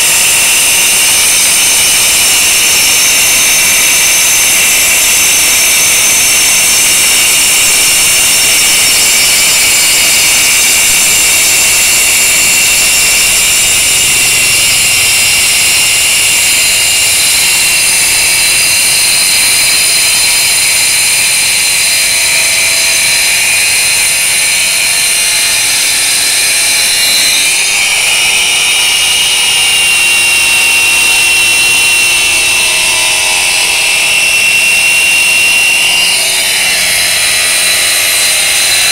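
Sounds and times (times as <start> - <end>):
wall chaser whining and grinding: 0.0 - 38.9.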